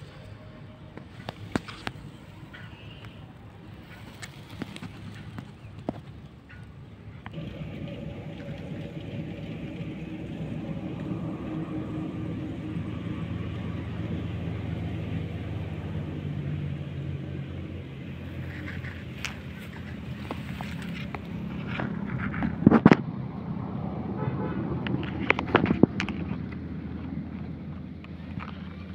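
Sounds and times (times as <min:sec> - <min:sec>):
low engine rumble: 0:00.0 - 0:28.9.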